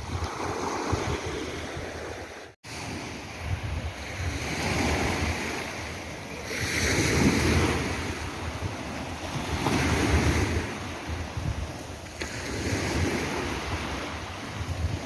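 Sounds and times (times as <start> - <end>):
sea waves breaking: 0.0 - 15.0
wind rumbling on microphone: 0.0 - 15.0.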